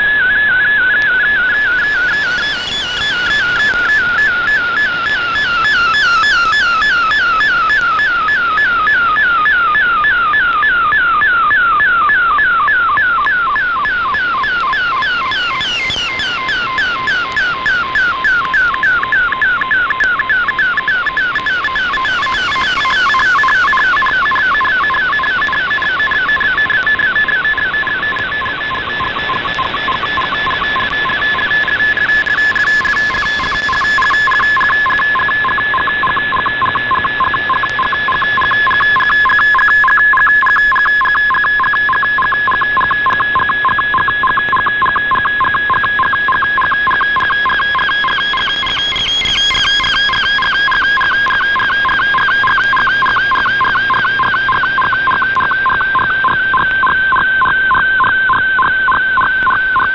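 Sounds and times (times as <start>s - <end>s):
steady whistle: 0.0s - 59.9s
warbling digital-mode tone: 1.2s - 59.2s.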